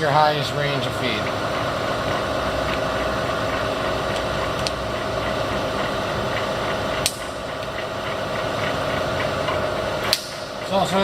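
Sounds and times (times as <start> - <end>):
milling machine gear whir: 0.0 - 11.0.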